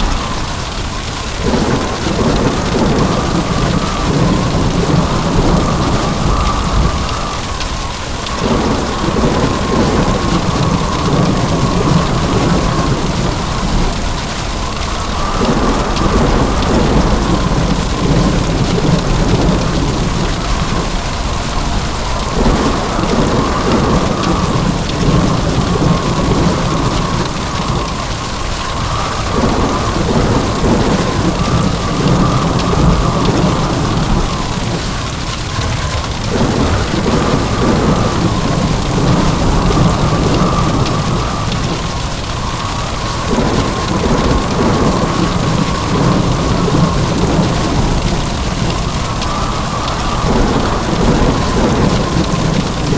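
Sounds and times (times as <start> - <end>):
heavy rain pouring: 0.0 - 52.9
low rumbling thunder: 0.0 - 52.9.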